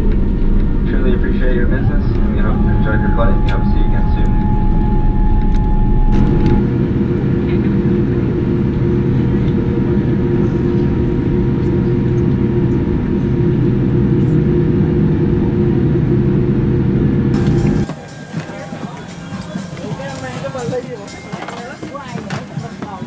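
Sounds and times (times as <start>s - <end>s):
humming tones: 0.0s - 22.1s
airliner engine and cabin drone: 0.0s - 23.0s.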